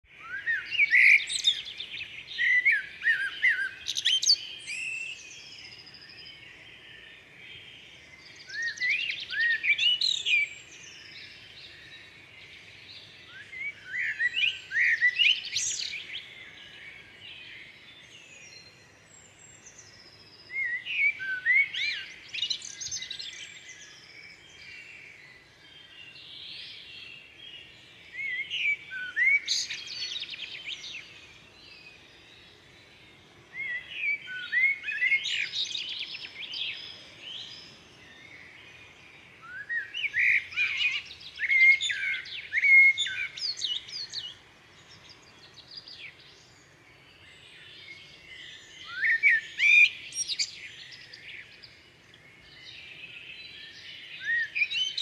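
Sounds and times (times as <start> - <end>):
songbirds chirping: 0.0 - 55.0
faint outdoor hiss: 0.1 - 55.0.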